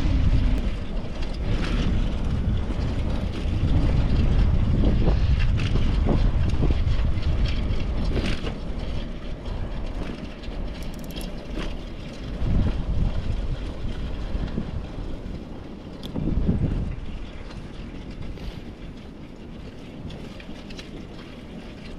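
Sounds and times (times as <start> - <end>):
bicycle road noise rumble: 0.0 - 21.9
wind buffeting microphone: 0.0 - 21.9.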